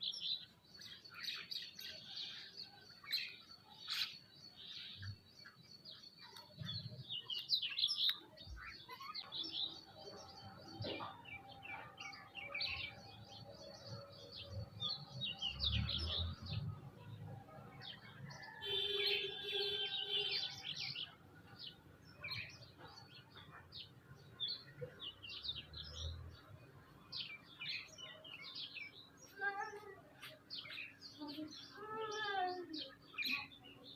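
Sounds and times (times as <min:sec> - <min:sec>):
birds chirping and twittering: 0:00.0 - 0:33.9.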